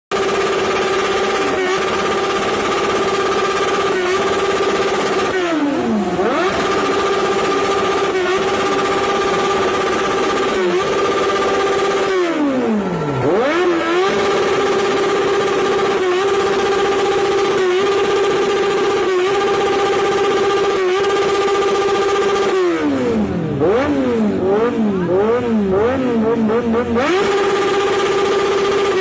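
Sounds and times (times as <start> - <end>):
motorcycle engine revving: 0.1 - 29.0.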